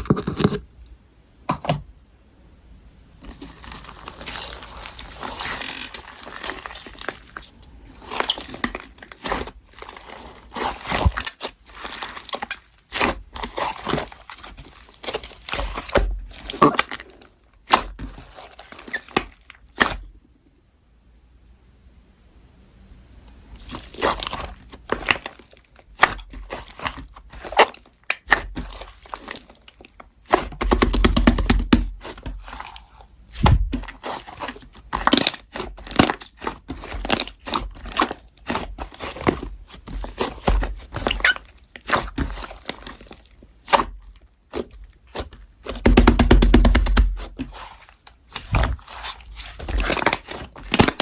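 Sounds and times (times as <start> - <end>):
slime squelching and crackling: 3.2 - 20.2, 23.5 - 51.0.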